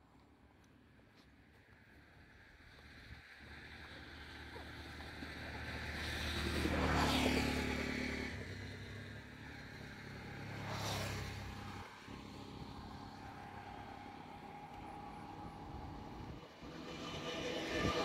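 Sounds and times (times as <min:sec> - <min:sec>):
low engine hum: 0:00.2 - 0:18.0
vehicles passing by: 0:00.2 - 0:18.0.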